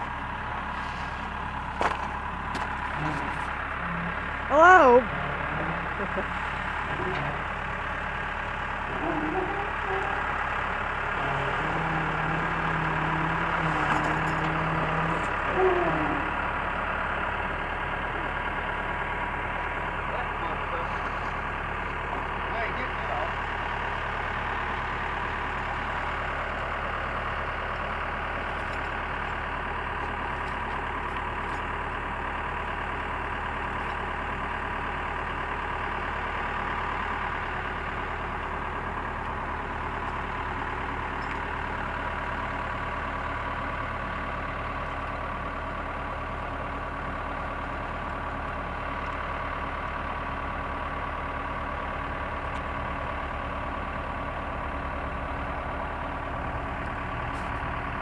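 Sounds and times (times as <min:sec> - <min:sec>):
backhoe engine running: 0:00.0 - 0:58.0.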